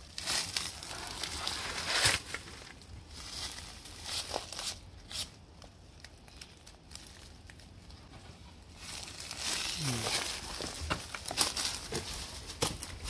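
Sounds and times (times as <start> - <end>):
rustling and crinkling handling: 0.0 - 13.0.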